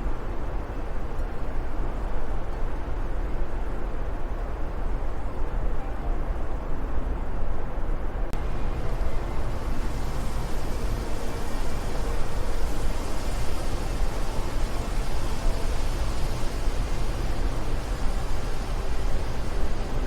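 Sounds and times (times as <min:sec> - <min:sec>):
rushing wind: 0:00.0 - 0:20.0.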